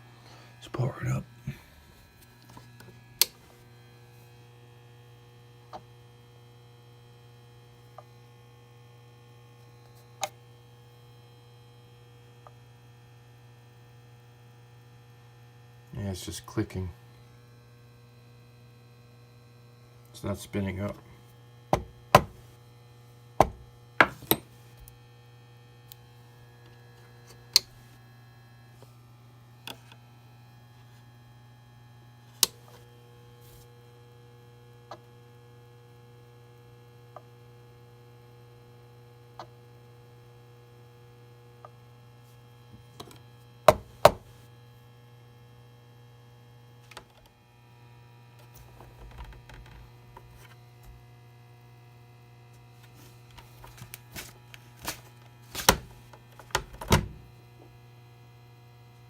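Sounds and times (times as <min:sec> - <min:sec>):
steady electrical hum: 0:00.0 - 0:59.0.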